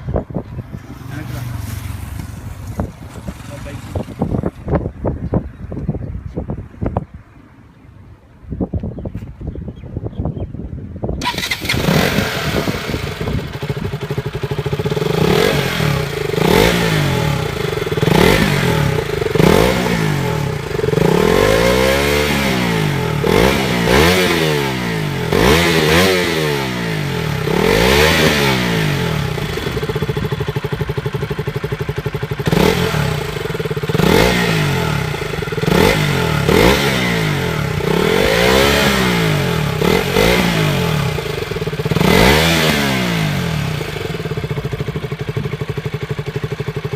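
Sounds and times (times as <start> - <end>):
motorcycle engine revving: 0.0 - 4.9, 11.2 - 46.9.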